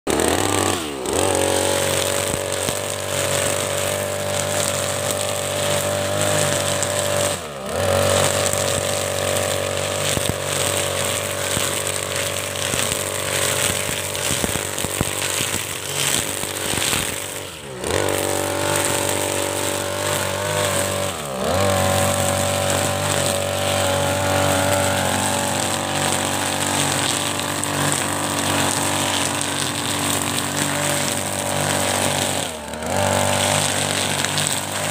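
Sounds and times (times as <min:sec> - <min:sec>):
brush cutter engine revving: 0:00.1 - 0:34.9
trimmer line cutting grass: 0:00.1 - 0:34.9.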